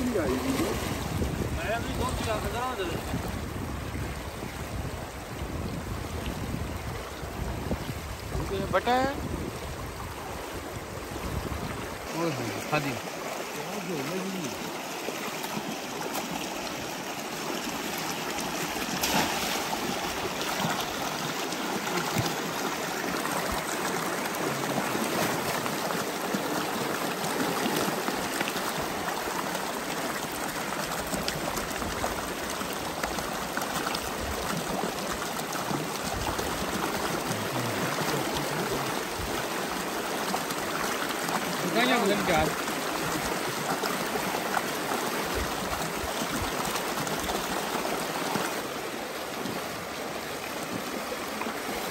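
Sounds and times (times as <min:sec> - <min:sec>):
stream water rushing: 0:00.0 - 0:51.9.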